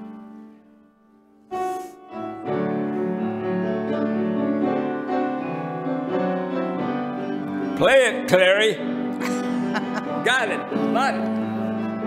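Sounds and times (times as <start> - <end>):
piano playing chords: 0.0 - 12.0.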